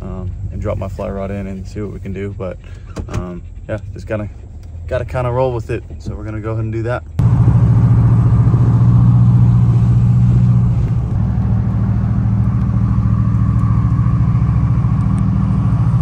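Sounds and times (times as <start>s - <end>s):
vehicle engine and road drone: 0.0s - 16.0s.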